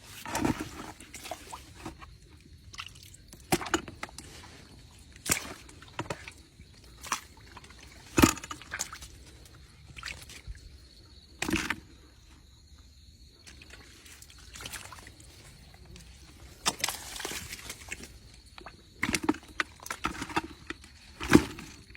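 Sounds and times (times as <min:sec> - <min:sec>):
water sloshing and splashing: 0:00.0 - 0:12.4, 0:13.3 - 0:21.9.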